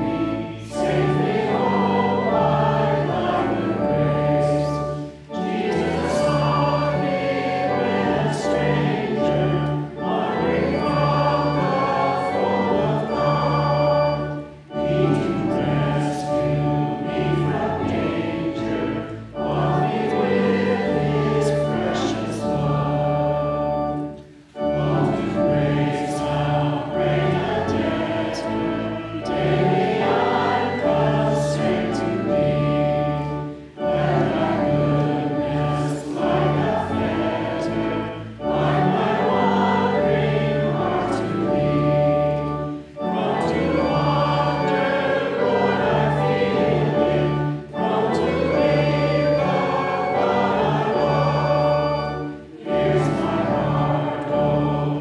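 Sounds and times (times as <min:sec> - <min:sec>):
instrumental accompaniment: 0:00.0 - 0:55.0
voices singing a hymn: 0:00.0 - 0:55.0.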